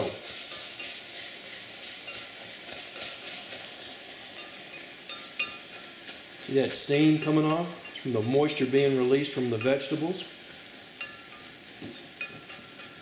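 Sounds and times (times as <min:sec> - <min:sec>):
roux sizzling: 0:00.0 - 0:13.0.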